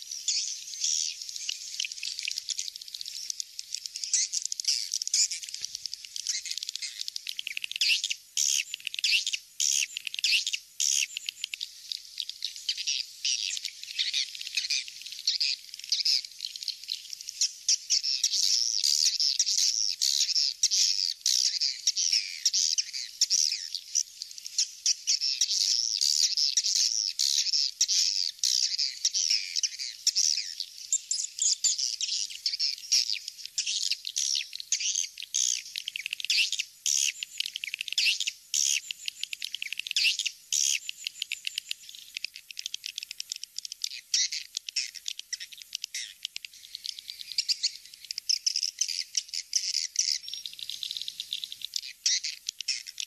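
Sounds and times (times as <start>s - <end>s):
recorded swiftlets twittering: 0.0s - 53.0s.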